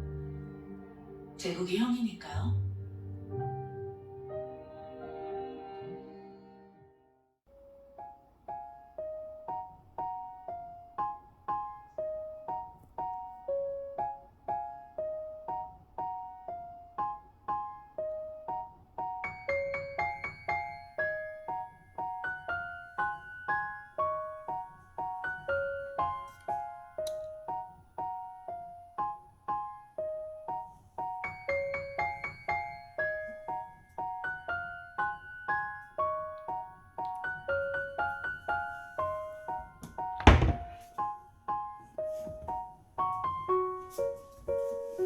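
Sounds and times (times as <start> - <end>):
gentle keyboard melody: 0.0 - 45.0.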